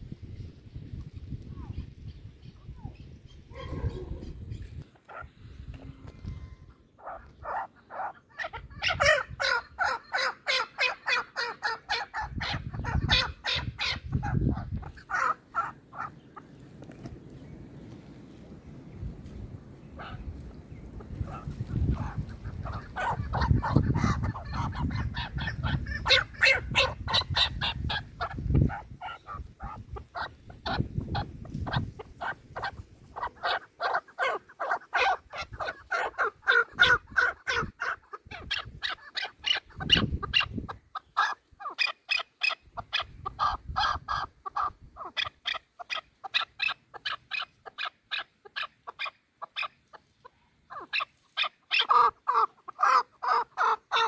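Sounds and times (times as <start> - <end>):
partridges clucking calls: 1.6 - 17.2, 19.8 - 54.0.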